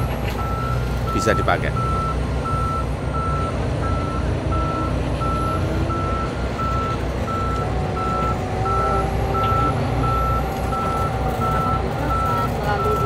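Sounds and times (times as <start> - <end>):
low engine rumble: 0.0 - 13.0
reversing alarm beeping: 0.0 - 13.0.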